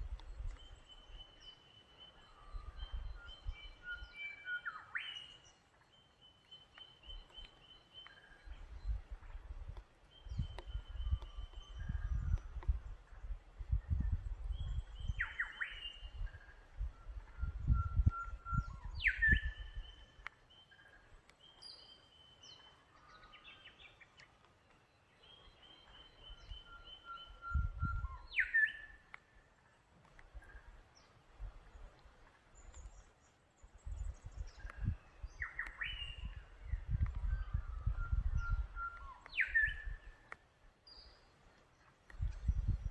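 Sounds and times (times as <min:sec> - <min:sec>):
birds calling and singing: 0:00.0 - 0:42.9.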